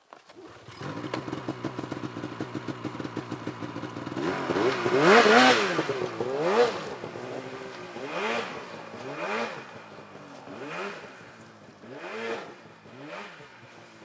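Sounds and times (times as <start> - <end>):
snowmobile engine revving: 0.4 - 14.0.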